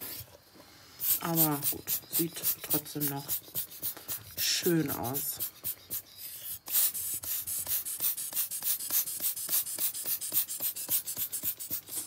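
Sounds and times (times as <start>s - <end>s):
scratchy strokes on paper: 1.0s - 12.0s.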